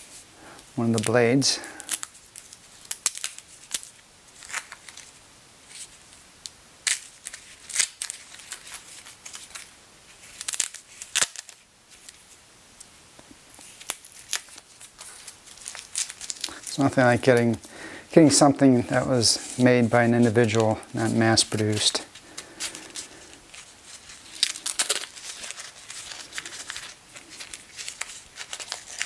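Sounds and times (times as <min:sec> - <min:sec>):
paper and tape peeling crackles: 0:00.8 - 0:05.9, 0:06.8 - 0:12.4, 0:13.5 - 0:29.0.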